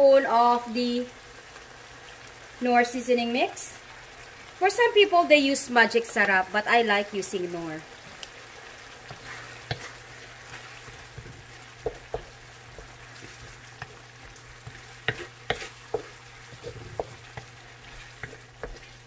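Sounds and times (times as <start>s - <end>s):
fish sizzling in a pan: 0.0s - 19.0s.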